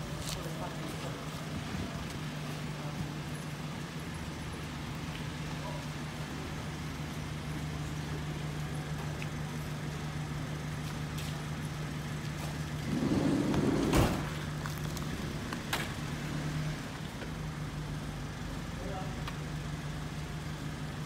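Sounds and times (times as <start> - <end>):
car engine idling hum: 0.0 - 21.0.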